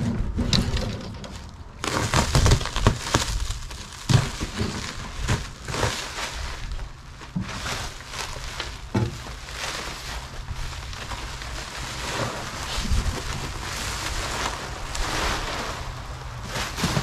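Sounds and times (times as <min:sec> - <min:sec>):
wind rumbling on microphone: 0:00.0 - 0:17.0
plastic wrap crinkling: 0:01.8 - 0:17.0.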